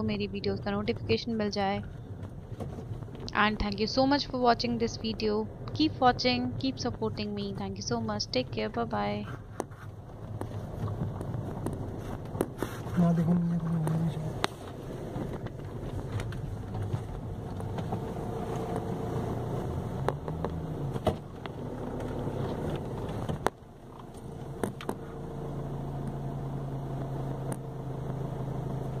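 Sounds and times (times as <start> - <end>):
car engine and road hum: 0.0 - 29.0.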